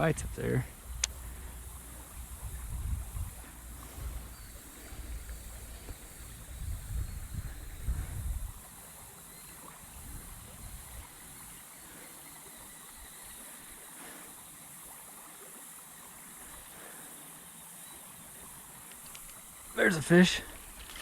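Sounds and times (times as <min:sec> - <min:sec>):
river water washing: 0:00.0 - 0:21.0.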